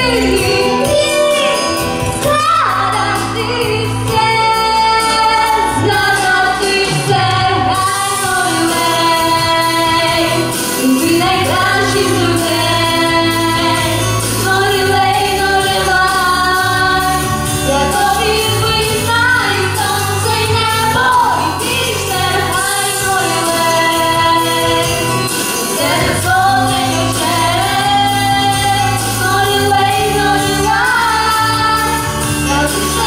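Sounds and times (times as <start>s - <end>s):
pop backing track with bass: 0.0s - 33.0s
young voices singing: 0.0s - 33.0s.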